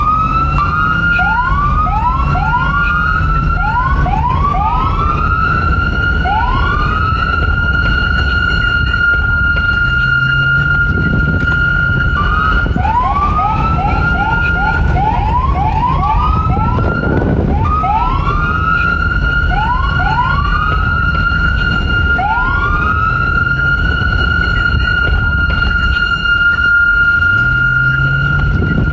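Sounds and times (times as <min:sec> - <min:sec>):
heavy low rumble: 0:00.0 - 0:28.9
police siren wailing: 0:00.0 - 0:28.9.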